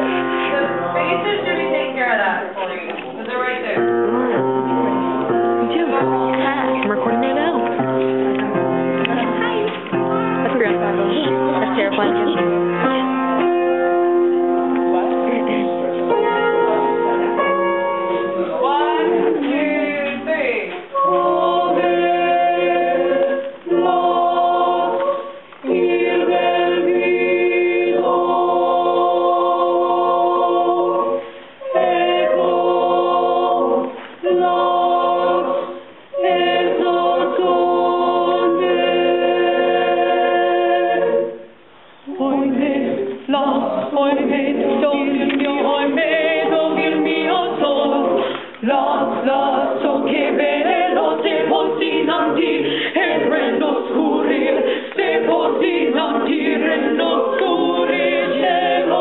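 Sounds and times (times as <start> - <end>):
choir singing a cappella: 0.0 - 2.6, 3.8 - 59.0.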